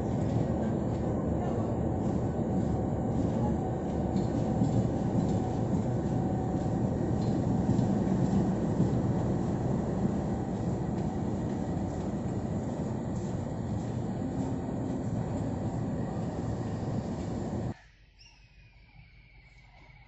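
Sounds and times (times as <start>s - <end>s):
diesel locomotive engine rumble: 0.0s - 17.8s.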